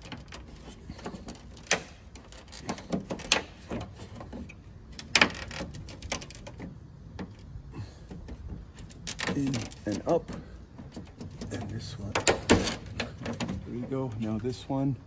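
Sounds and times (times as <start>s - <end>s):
hard plastic clicks and knocks: 0.0s - 13.7s.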